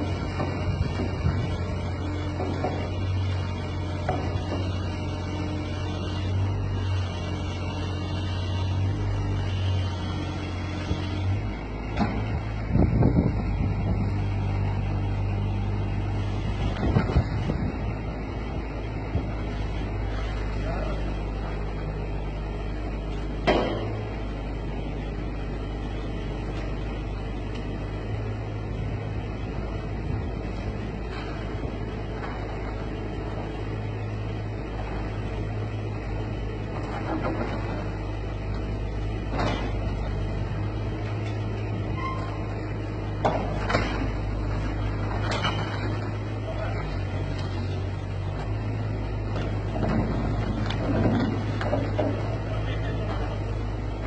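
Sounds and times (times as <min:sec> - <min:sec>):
heavy vehicle engine droning: 0:00.0 - 0:54.0.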